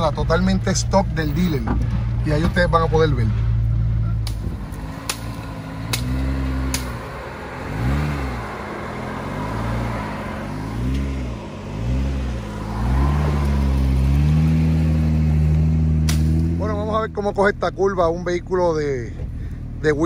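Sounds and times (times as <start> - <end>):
engine revving: 0.0 - 17.6.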